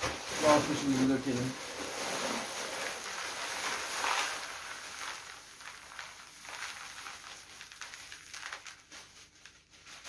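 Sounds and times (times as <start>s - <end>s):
gravel pouring into plastic bucket: 0.0s - 10.0s.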